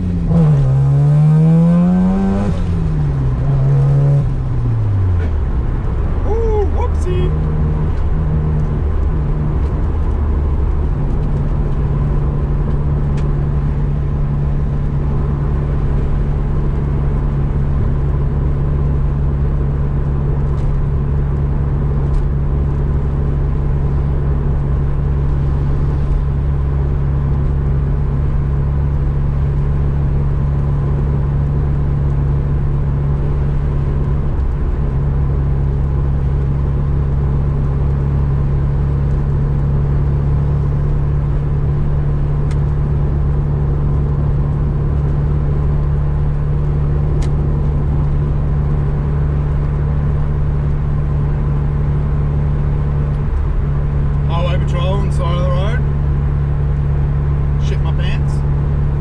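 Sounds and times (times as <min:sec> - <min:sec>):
car engine drone from cabin: 0:00.0 - 0:59.0.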